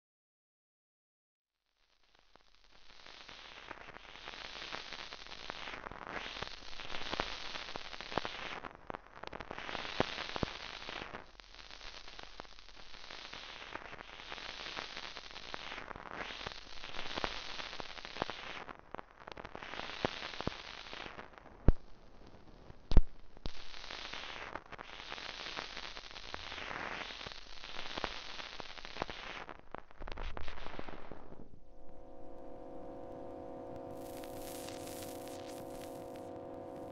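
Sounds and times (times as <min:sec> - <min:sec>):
record hiss and crackle: 0:01.7 - 0:36.9.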